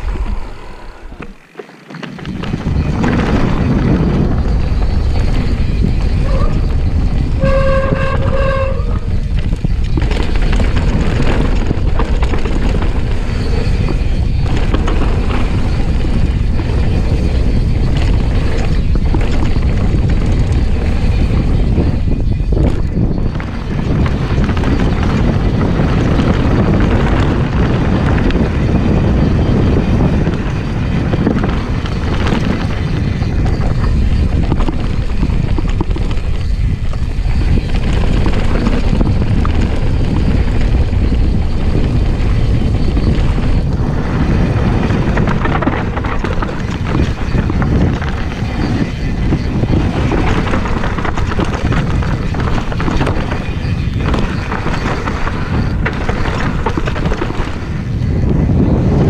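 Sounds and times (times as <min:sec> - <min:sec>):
bike rattling over bumps: 0:00.0 - 0:59.0
tyres rolling over gravel: 0:00.0 - 0:59.0
wind buffeting microphone: 0:00.0 - 0:59.0.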